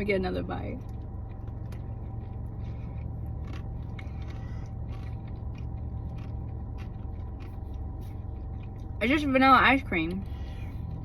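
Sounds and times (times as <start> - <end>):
steady low hum: 0.0 - 11.0
crunching ice cream cone: 0.3 - 11.0.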